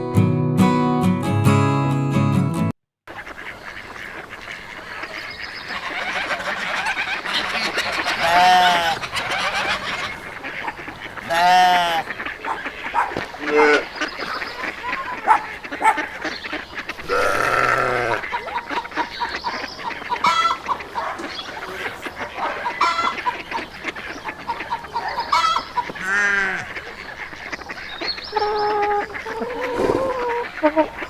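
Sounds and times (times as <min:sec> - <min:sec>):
bird-like farm animal calls: 0:03.2 - 0:31.0.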